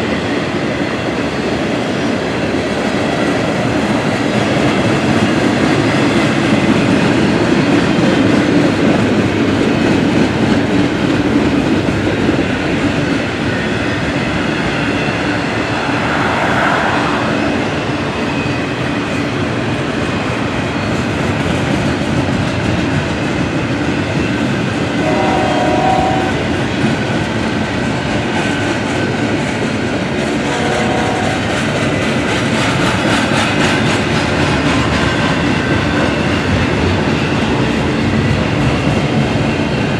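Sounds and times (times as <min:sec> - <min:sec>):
freight train rumbling and clattering: 0:00.0 - 0:39.9.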